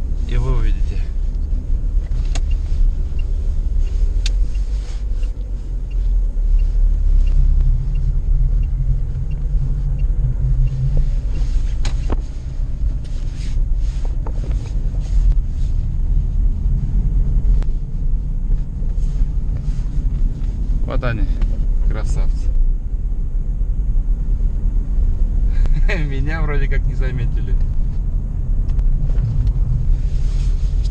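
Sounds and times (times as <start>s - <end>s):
car engine and road rumble: 0.0s - 30.9s.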